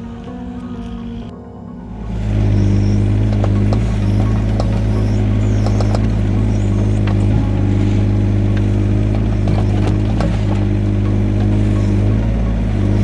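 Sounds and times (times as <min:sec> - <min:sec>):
diesel engine running: 0:01.9 - 0:13.0.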